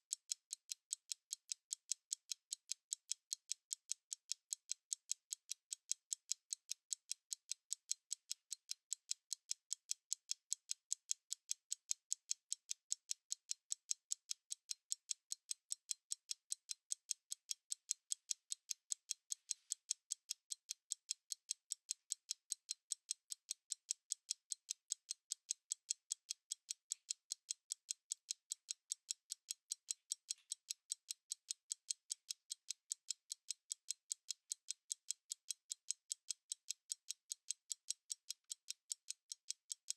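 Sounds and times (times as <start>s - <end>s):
mechanical stopwatch ticking: 0.0s - 39.9s.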